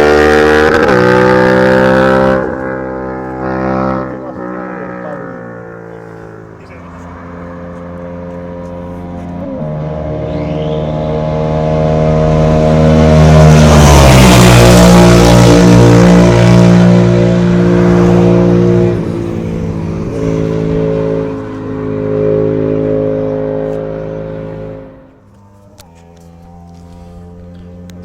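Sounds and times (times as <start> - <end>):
motorcycle passing by: 0.0 - 28.0.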